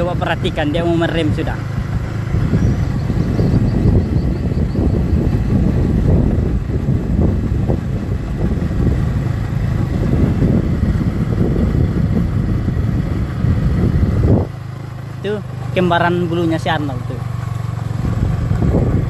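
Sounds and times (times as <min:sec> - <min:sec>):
motorcycle engine: 0:00.0 - 0:19.0
road noise: 0:00.0 - 0:19.0
wind buffeting microphone: 0:00.0 - 0:19.0.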